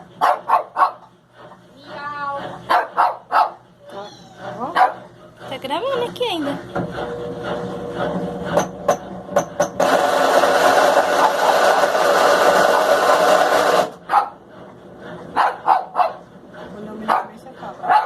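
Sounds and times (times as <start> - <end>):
washing machine spin rushing: 0.0 - 18.0.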